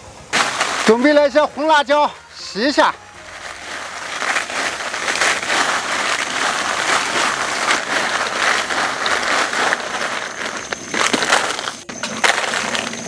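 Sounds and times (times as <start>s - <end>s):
dry chilies crackling: 0.3s - 13.0s.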